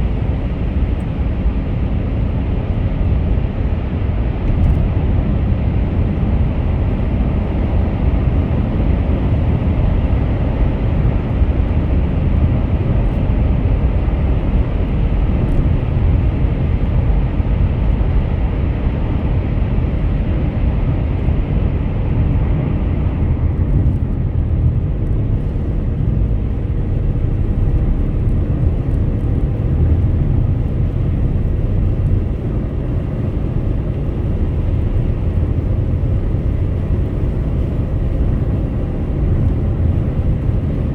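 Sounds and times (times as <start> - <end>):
car engine rumble: 0.0 - 40.9
road and tyre noise: 0.0 - 40.9.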